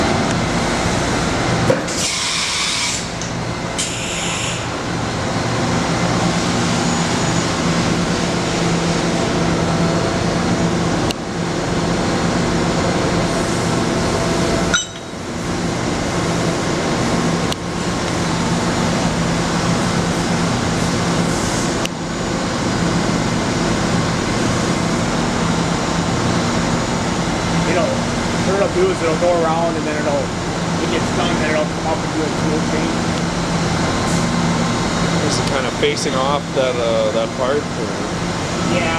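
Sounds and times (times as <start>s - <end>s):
machining center humming: 0.0s - 1.8s, 2.8s - 38.9s.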